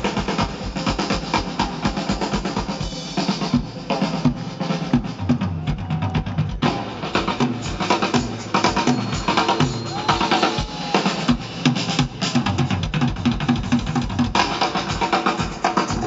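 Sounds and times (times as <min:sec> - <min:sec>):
bass drum beat: 0:00.0 - 0:16.0.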